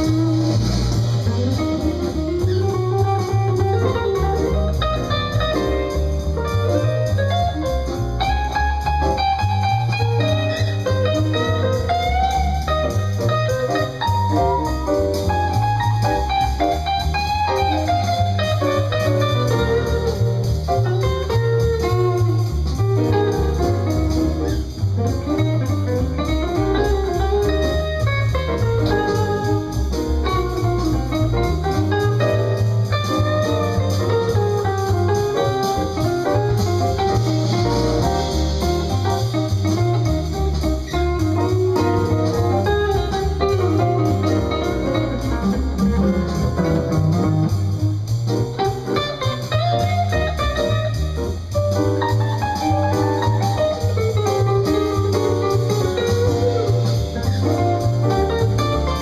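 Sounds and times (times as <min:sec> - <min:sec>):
bluesy electric guitar lead: 0:00.0 - 0:59.0
pulsing bass line: 0:00.0 - 0:59.0.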